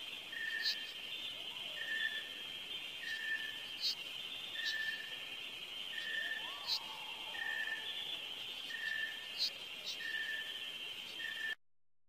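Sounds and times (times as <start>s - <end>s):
insect chorus buzzing: 0.0s - 11.6s.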